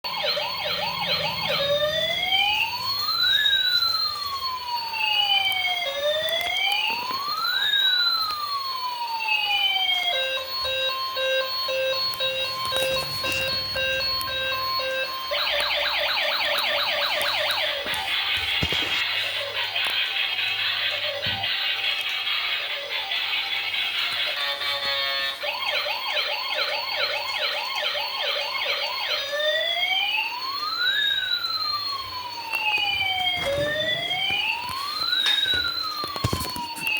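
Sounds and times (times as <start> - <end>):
electronic police siren: 0.0 - 36.9.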